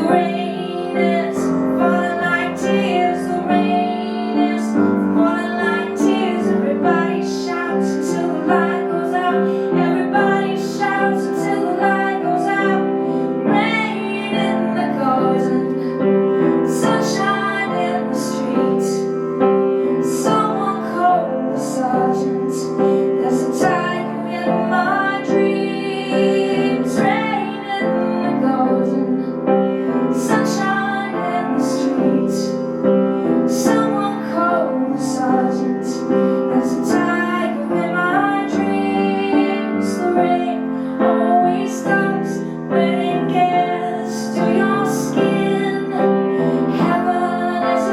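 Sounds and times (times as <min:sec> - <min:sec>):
piano accompaniment: 0:00.0 - 0:47.9
woman singing: 0:00.0 - 0:47.9.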